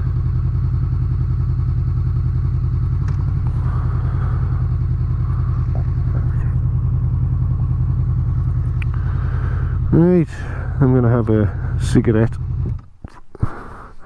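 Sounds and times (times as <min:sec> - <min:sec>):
motorcycle engine running at low revs: 0:00.0 - 0:13.1.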